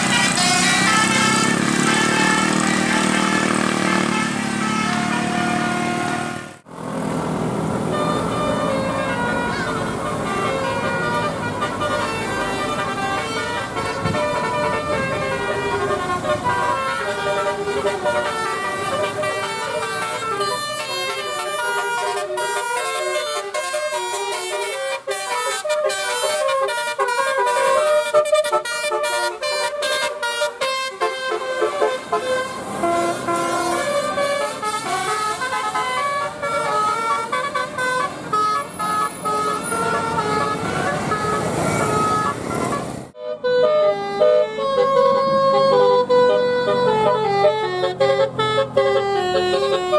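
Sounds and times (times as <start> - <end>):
musical horn playing a tune: 0.0 - 6.7, 7.8 - 49.9
passing road traffic: 0.0 - 49.9.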